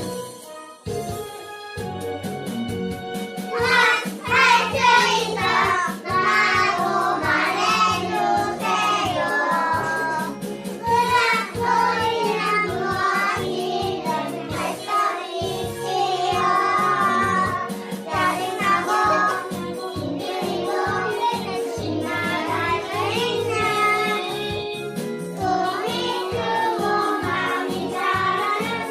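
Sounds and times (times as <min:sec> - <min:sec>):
upbeat backing track: 0:00.0 - 0:28.9
children singing in unison: 0:03.5 - 0:24.8, 0:25.4 - 0:28.9.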